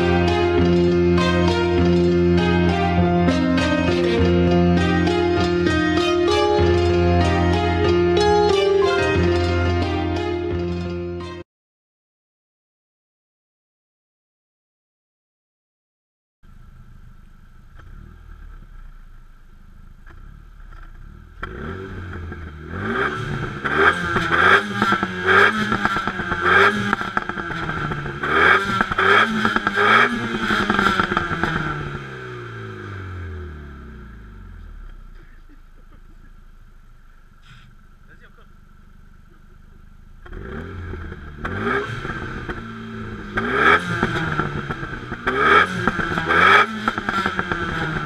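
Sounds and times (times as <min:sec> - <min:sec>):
exhaust cracks: 0:00.0 - 0:08.6, 0:16.4 - 0:48.0
car engine revving: 0:00.0 - 0:11.4, 0:16.4 - 0:48.0.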